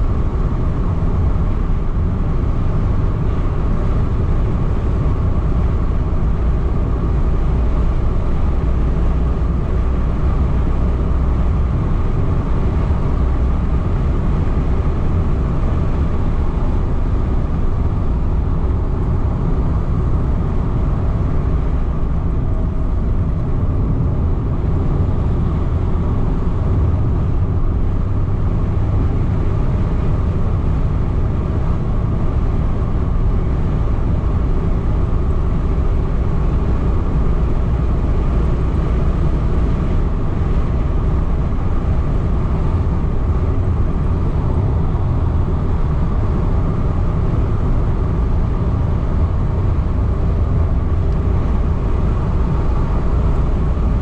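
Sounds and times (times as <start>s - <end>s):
car interior road rumble: 0.0s - 54.0s.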